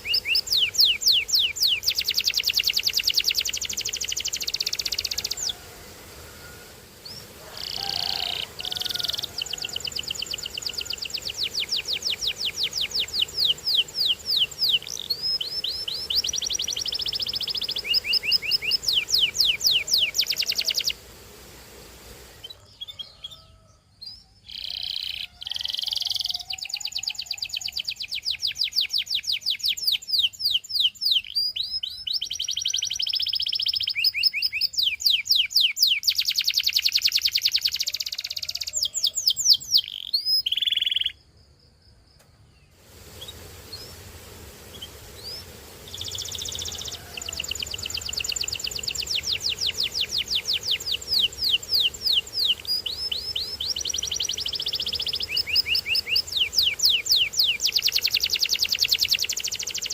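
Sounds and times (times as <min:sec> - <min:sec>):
canary singing in trills: 0:00.0 - 0:21.0, 0:22.3 - 0:41.2, 0:44.7 - 0:59.9.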